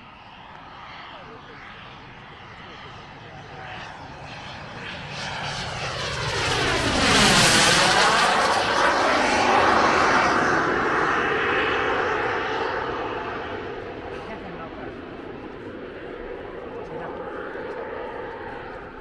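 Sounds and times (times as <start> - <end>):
jet engine passing overhead: 0.0 - 19.0.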